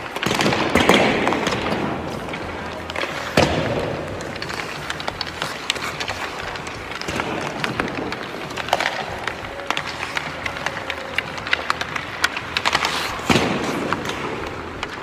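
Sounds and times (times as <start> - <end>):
hockey sticks clacking on pucks: 0.0 - 15.0
skate blades scraping ice: 0.0 - 15.0
steady rink noise: 0.0 - 15.0.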